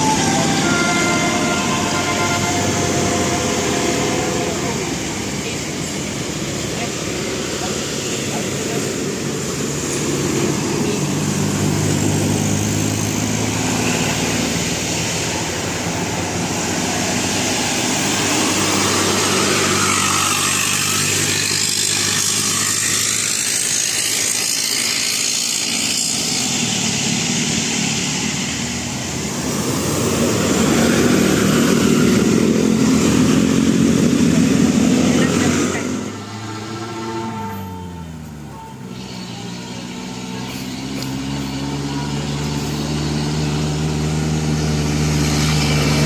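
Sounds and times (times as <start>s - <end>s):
heavy vehicle engine hum: 0.0s - 46.0s
passing traffic rush: 0.0s - 46.0s.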